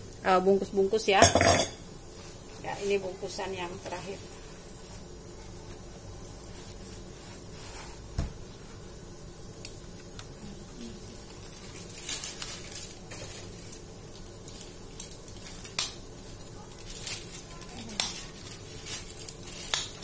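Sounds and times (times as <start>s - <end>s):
low steady hum: 0.0s - 20.0s
banana leaves rustling and crackling: 2.1s - 8.8s, 9.5s - 20.0s.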